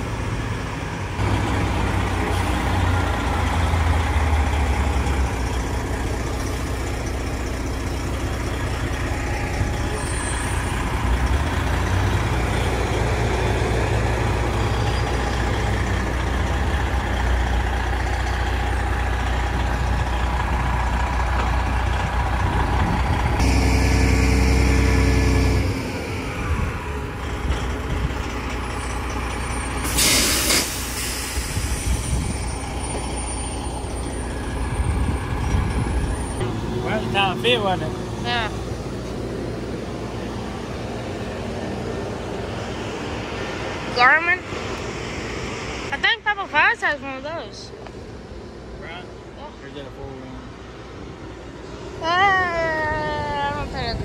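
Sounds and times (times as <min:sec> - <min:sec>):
road noise: 0:00.0 - 0:54.0
truck engine drone: 0:00.0 - 0:54.0.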